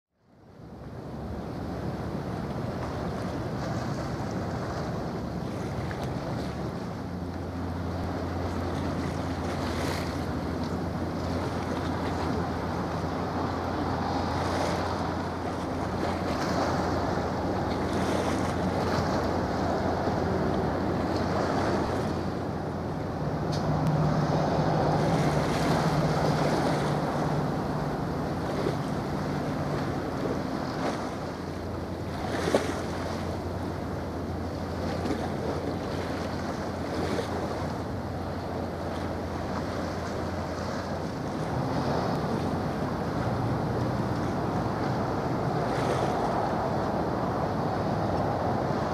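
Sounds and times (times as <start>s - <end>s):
ship engines droning: 0.2s - 48.9s
water lapping: 0.9s - 48.9s.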